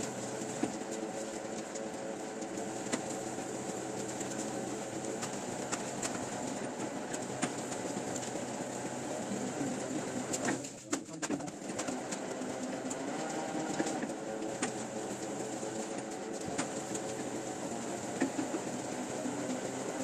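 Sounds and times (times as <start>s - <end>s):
printing press machinery droning: 0.0s - 20.0s.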